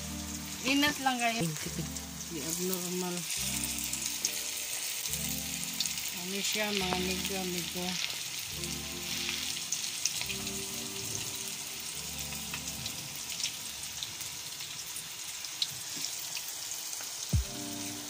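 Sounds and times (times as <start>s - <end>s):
deep-frying sizzle with crackles: 0.0s - 18.0s.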